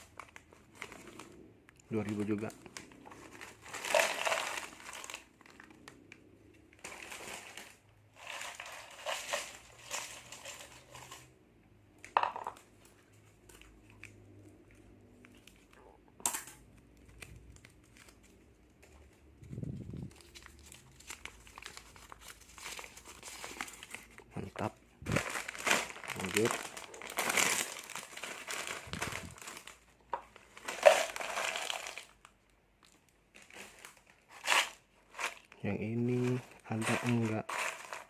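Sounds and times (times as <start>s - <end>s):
plastic packets crinkling: 0.0s - 11.3s, 16.8s - 38.0s.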